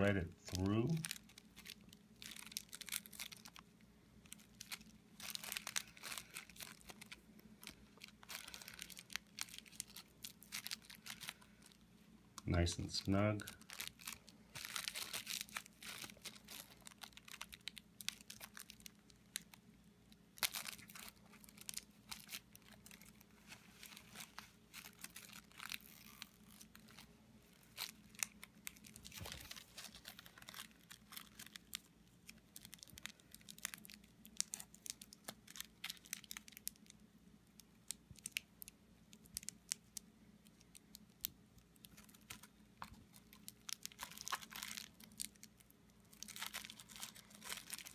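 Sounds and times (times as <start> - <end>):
bubble wrap crinkling: 0.0 - 47.9.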